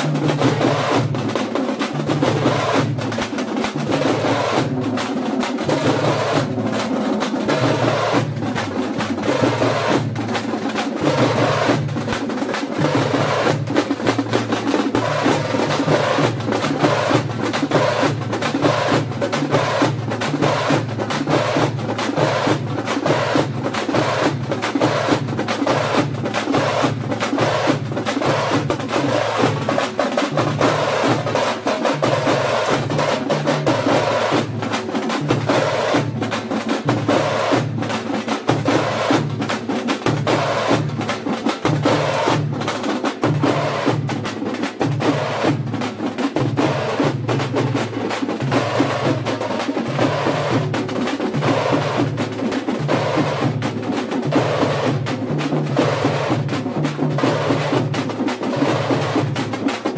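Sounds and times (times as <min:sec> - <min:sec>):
frame drums beaten with sticks: 0:00.0 - 0:59.9.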